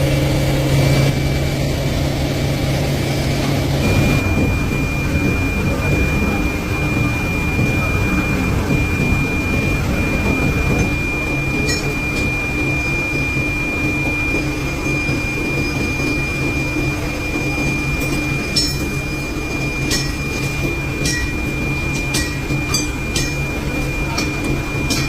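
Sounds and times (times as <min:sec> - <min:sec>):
machine humming with high whine: 0:00.0 - 0:25.0.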